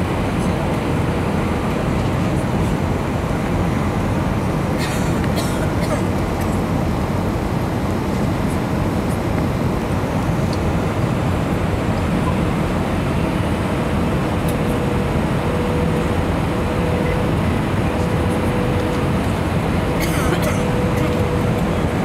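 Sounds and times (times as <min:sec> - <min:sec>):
airliner engine and airflow: 0:00.0 - 0:22.0.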